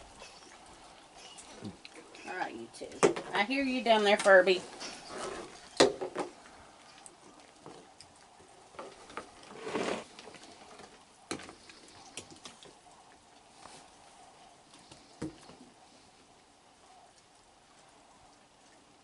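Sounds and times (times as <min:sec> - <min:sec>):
raccoons chewing: 0:00.0 - 0:19.0
soft rustle: 0:00.0 - 0:19.0.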